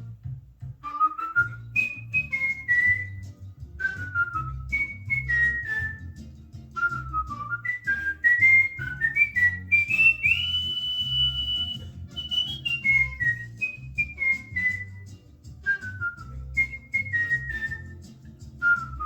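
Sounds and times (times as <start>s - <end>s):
cockatiel whistling a tune: 0.7s - 19.0s.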